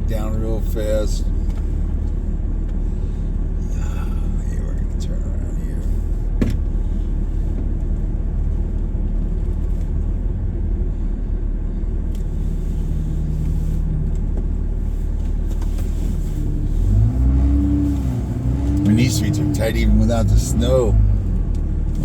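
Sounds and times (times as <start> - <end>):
vehicle engine at low speed: 0.0 - 22.0.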